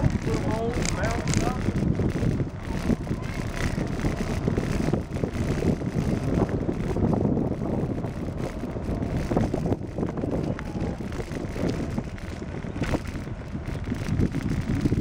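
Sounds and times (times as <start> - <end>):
bicycle tyre road noise: 0.0 - 15.0
wind buffeting microphone: 0.0 - 15.0.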